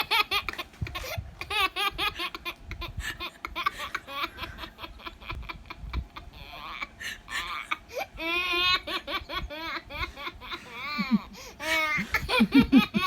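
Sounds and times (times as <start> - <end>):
baby giggling: 0.0 - 13.0.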